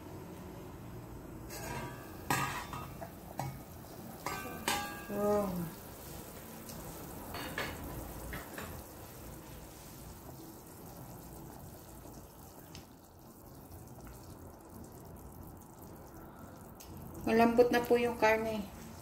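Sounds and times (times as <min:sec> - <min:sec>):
stew bubbling: 0:01.5 - 0:19.0.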